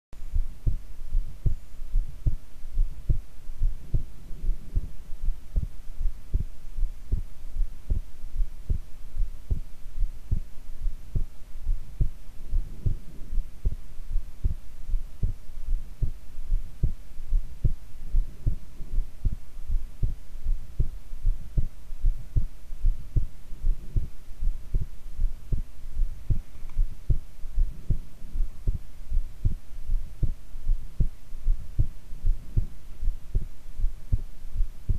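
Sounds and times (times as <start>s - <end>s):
faint steady hum: 0.2s - 34.9s
heartbeat: 0.2s - 34.9s.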